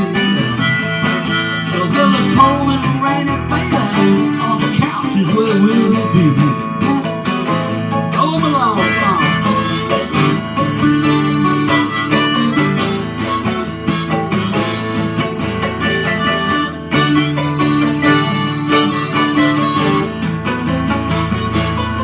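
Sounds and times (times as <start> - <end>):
harmonica melody: 0.0 - 22.0
strummed twelve-string guitar: 0.0 - 22.0.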